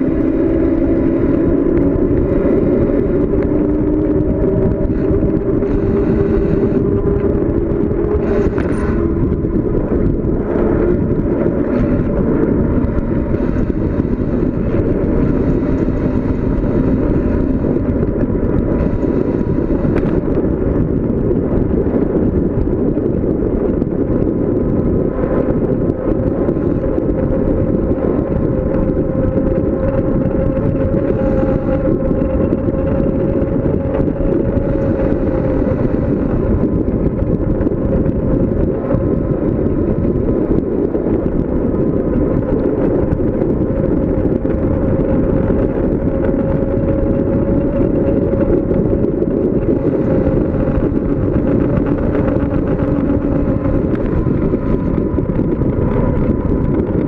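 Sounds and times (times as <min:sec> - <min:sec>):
wind buffeting the microphone: 0:00.0 - 0:57.0.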